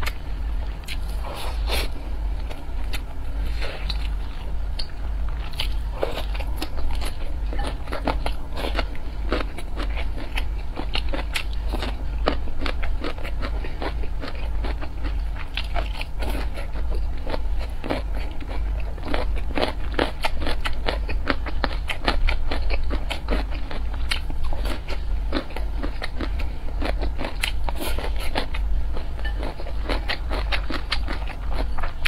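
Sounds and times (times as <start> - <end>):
crunchy chewing: 0.0 - 32.0
steady low hum: 0.0 - 32.0.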